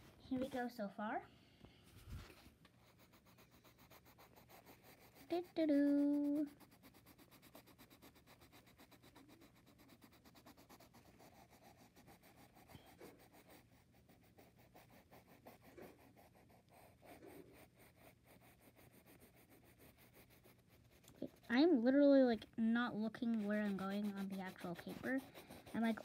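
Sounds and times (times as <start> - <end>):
pencil scratching on paper: 2.0 - 26.0.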